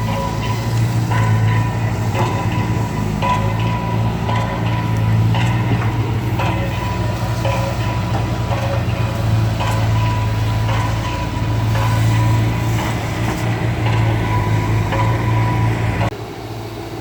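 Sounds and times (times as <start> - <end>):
tracks squeaking and clanking: 0.0 - 16.1
diesel engine running: 0.0 - 17.0.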